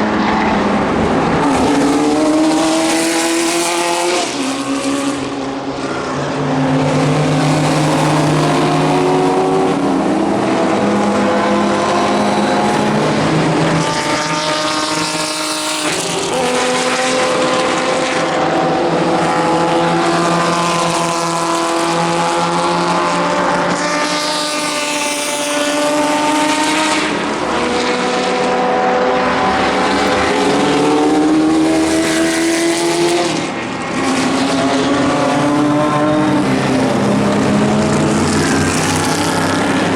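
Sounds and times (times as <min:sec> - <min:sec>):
racing cars passing: 0:00.0 - 0:39.9.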